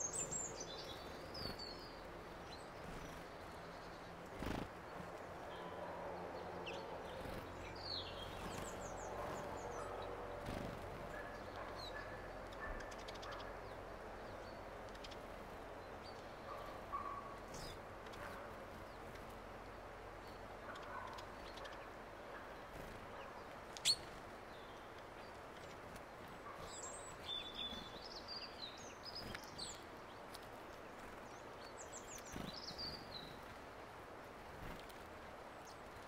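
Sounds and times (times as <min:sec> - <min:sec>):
outdoor background hiss: 0:00.0 - 0:36.0
small birds chirping: 0:00.0 - 0:36.0.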